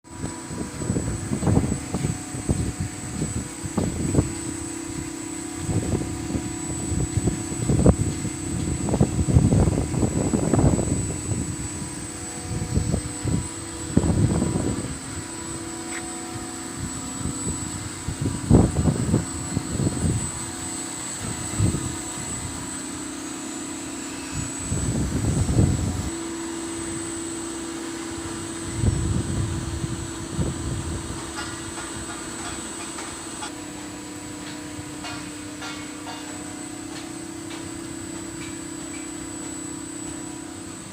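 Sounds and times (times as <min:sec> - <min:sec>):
machinery humming: 0:00.0 - 0:40.9.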